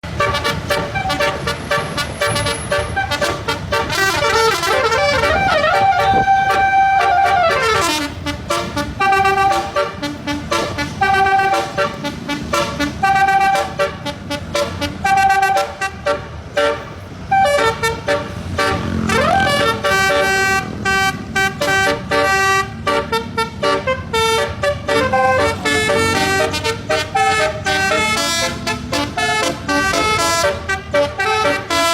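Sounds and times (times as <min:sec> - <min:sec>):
musical bus horn tune: 0:00.0 - 0:31.9.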